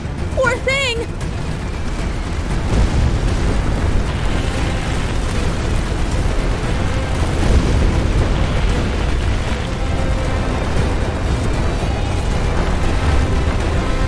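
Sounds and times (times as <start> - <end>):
heavy storm wind rumble: 1.2 - 14.0.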